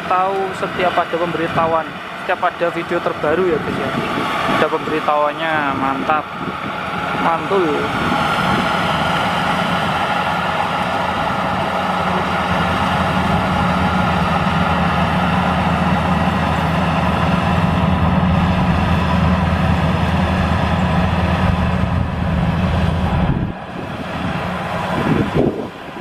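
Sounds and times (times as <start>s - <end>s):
combine harvester engine droning: 0.0s - 26.0s.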